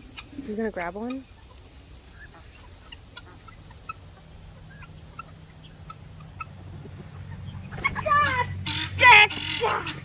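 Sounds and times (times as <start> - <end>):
baby turkeys peeping: 0.0 - 10.0.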